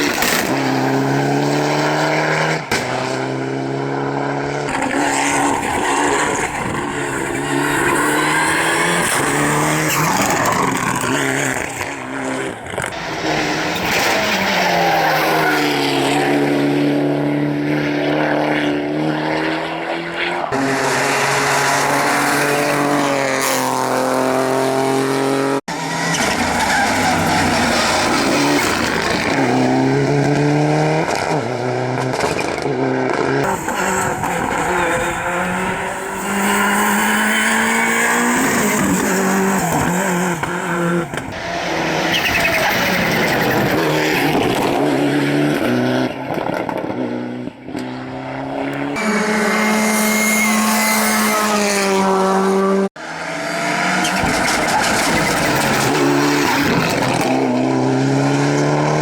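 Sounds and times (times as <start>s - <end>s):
rally car engines revving hard: 0.0s - 59.0s.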